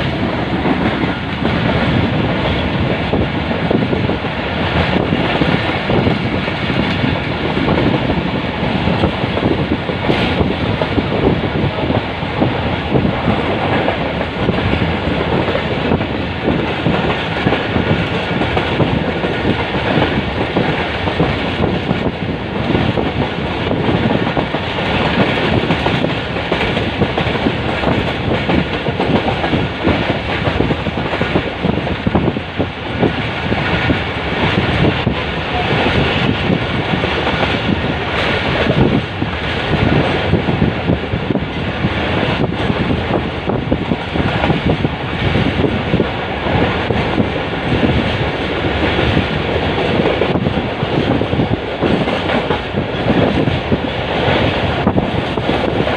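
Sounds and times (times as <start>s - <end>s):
train rolling on track: 0.0s - 55.9s.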